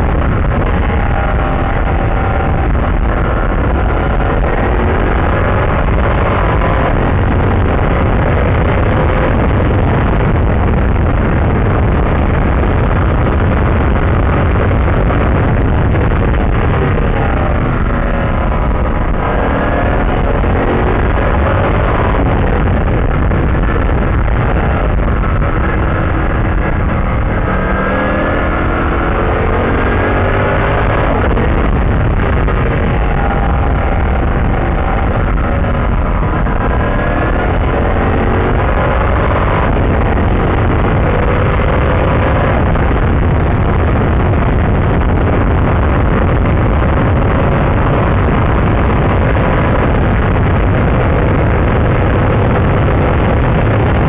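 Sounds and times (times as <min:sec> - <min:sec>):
racing car engine: 0:00.0 - 0:54.0
wind buffeting microphone: 0:00.0 - 0:54.0.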